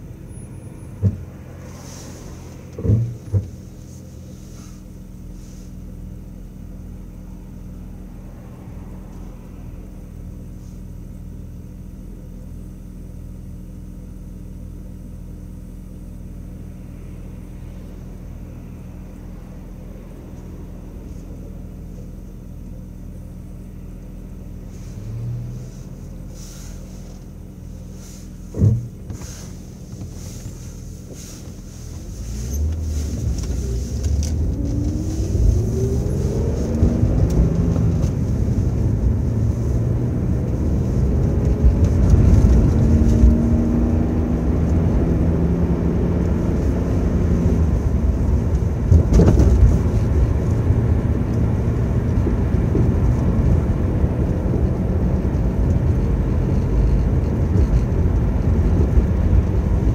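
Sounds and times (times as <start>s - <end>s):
car engine running: 0.0s - 59.9s
road noise: 0.0s - 59.9s.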